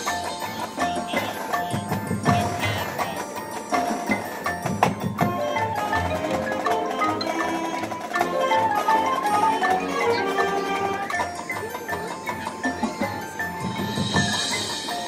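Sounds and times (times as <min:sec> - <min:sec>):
mallet percussion runs: 0:00.0 - 0:15.0
marching band playing: 0:00.0 - 0:15.0
sharp percussion hits: 0:00.0 - 0:15.0.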